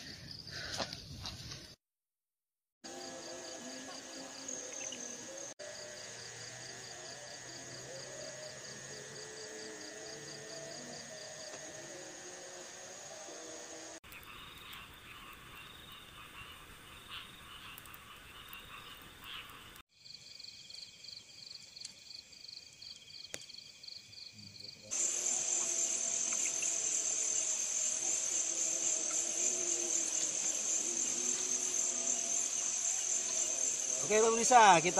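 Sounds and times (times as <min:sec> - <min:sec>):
crickets and insects chirping: 0:00.0 - 0:01.7, 0:02.8 - 0:34.9
frogs croaking: 0:02.9 - 0:20.9, 0:21.5 - 0:34.9.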